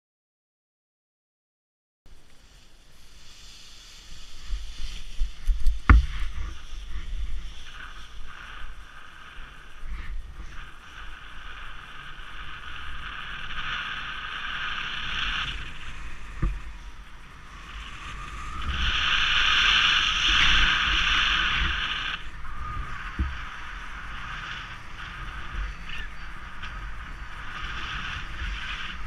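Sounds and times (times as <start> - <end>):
wind buffeting microphone: 2.8 - 29.0.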